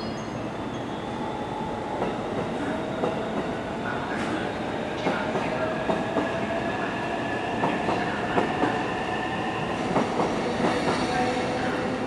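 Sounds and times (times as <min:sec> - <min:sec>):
freight train rolling on rails: 0:00.0 - 0:12.0.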